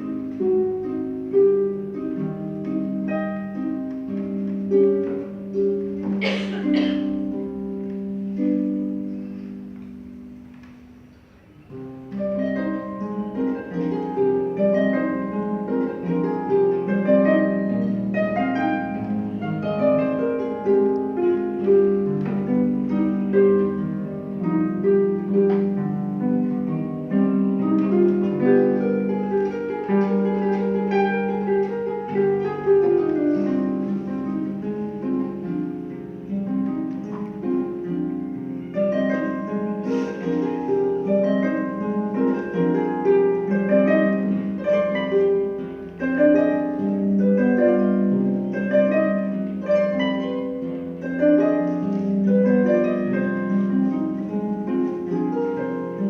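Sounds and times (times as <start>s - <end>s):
harp playing: 0.0s - 56.0s.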